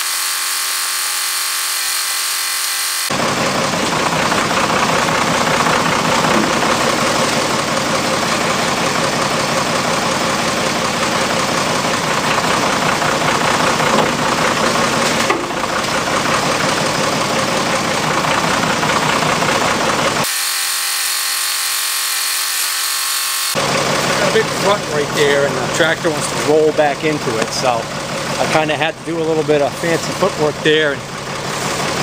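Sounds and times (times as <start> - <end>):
tractor engine idling: 3.1 - 20.2, 23.5 - 32.0.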